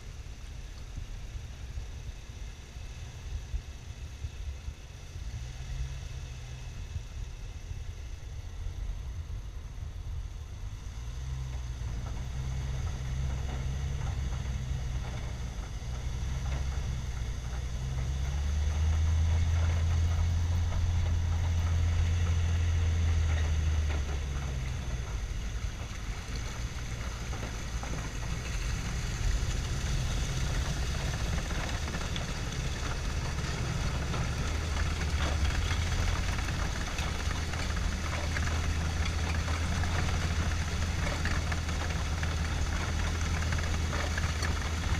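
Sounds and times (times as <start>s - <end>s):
engine droning: 0.0s - 44.9s.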